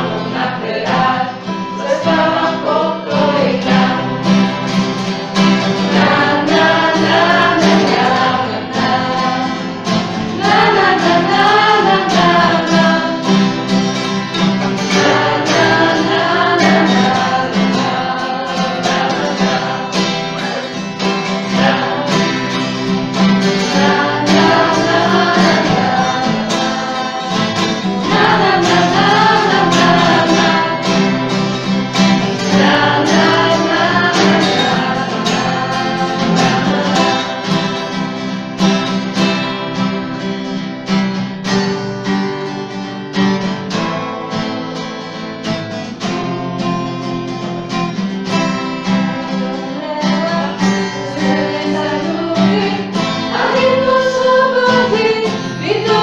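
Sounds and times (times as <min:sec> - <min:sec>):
group of people singing: 0:00.0 - 0:40.3, 0:48.2 - 0:56.0
strummed guitars: 0:00.0 - 0:56.0.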